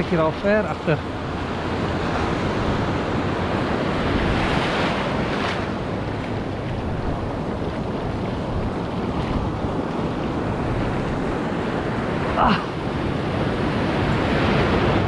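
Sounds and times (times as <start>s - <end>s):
ocean surf washing onto shore: 0.0s - 15.0s.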